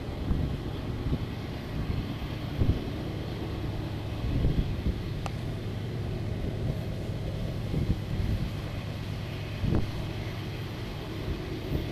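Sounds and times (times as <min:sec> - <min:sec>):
distant locomotives rumbling: 0:00.0 - 0:11.9
wind buffeting microphone: 0:00.0 - 0:11.9.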